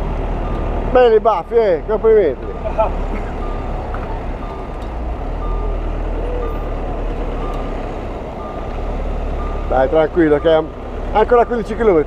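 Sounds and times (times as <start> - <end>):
wind and road noise rumble: 0.0 - 12.0.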